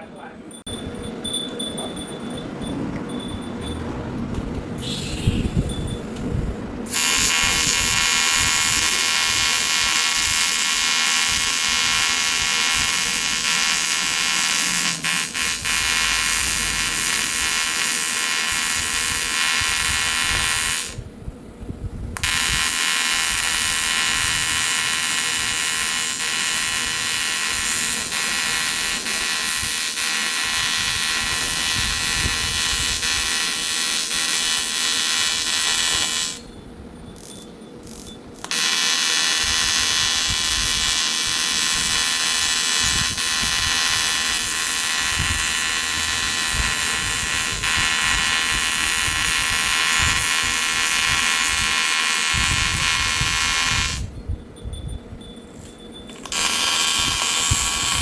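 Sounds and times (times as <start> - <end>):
welding arc buzzing: 6.8 - 21.1, 22.2 - 36.6, 37.2 - 54.2, 55.5 - 58.0.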